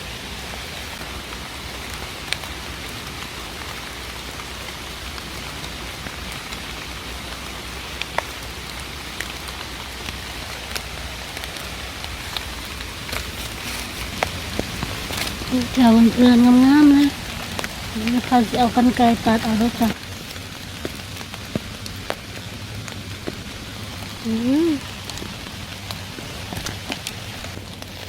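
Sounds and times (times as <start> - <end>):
rain drop ticks: 0.0 - 28.0
steady rain hiss: 0.0 - 28.0.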